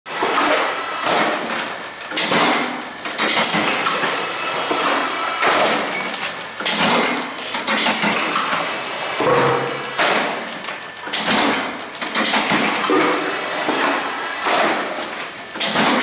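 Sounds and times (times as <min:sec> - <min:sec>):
bagging machine clattering: 0:00.1 - 0:16.0.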